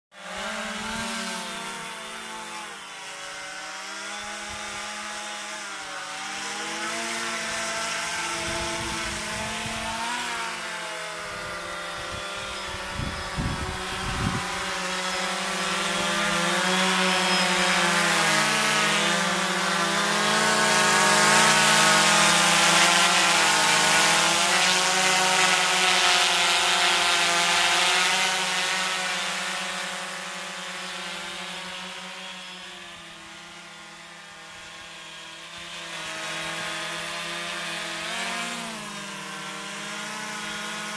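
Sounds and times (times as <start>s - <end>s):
drone propellers whining: 0.2s - 40.9s.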